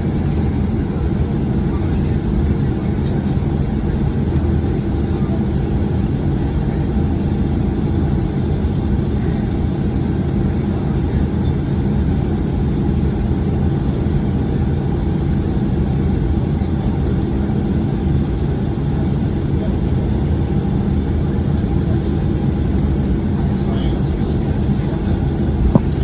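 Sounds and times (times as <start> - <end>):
airplane cabin engine rumble: 0.0 - 26.0.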